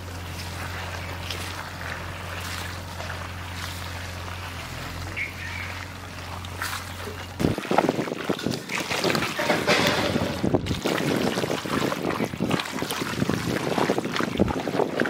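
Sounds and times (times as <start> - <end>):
hands squishing raw meat: 0.0 - 15.0
wet squelching and rustling: 0.0 - 15.0.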